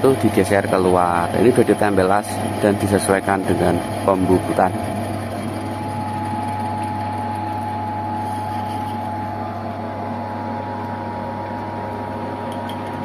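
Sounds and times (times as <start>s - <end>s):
lathe motor hum with whine: 0.0s - 13.0s.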